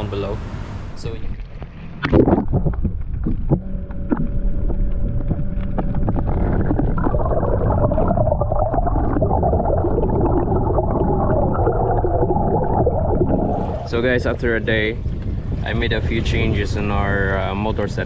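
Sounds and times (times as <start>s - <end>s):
trolling motor underwater whine: 0.2s - 18.0s
rough water churn: 1.0s - 18.0s.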